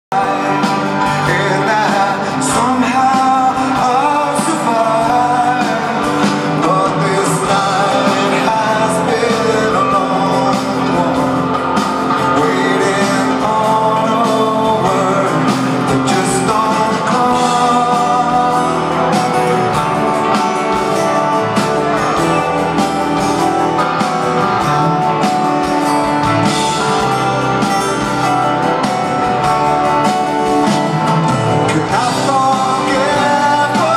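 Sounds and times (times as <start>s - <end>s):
man singing: 0.0s - 23.0s, 24.0s - 33.9s
acoustic guitars: 0.1s - 33.9s
drums: 0.1s - 33.9s.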